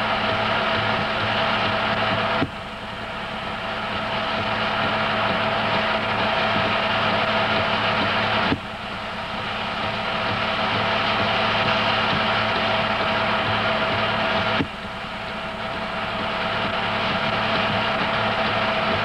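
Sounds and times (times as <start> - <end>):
film projector motor and fan hum: 0.0 - 19.0.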